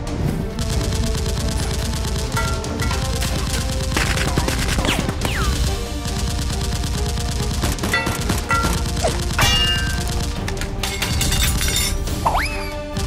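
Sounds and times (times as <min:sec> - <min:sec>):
action music: 0:00.0 - 0:13.0
rapid gunfire: 0:00.4 - 0:11.6.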